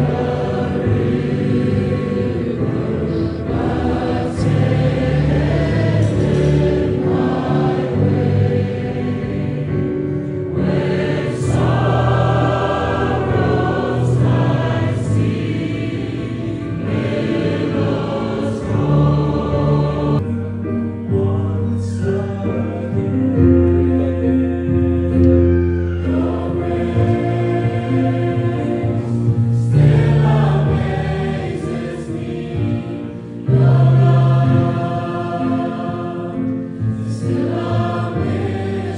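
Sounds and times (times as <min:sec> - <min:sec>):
choir singing gospel: 0:00.0 - 0:38.9.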